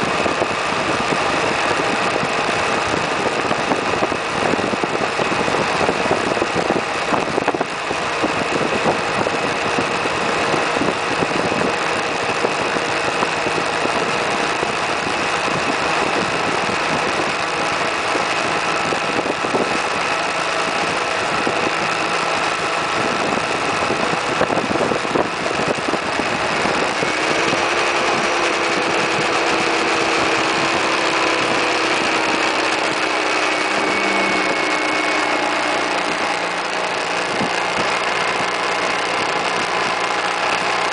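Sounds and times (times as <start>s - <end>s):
scooter engine running: 0.0s - 40.9s
steady rushing noise: 0.0s - 40.9s.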